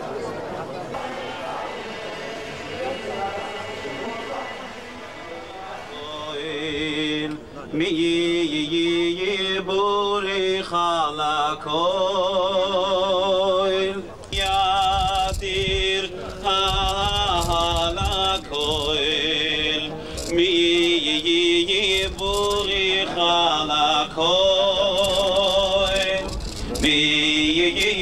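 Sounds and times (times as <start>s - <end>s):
man singing chant-like melody: 1.0s - 28.0s.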